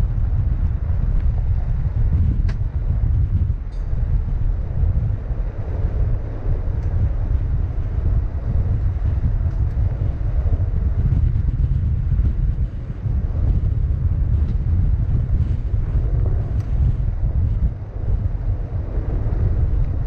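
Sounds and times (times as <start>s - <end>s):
vehicle rumbling on dirt road: 0.0s - 20.0s
wind buffeting microphone: 0.0s - 20.0s.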